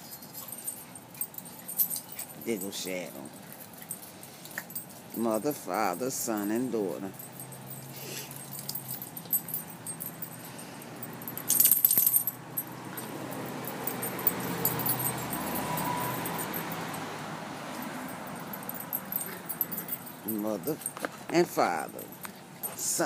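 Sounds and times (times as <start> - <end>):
metallic jingle: 0.0 - 23.0.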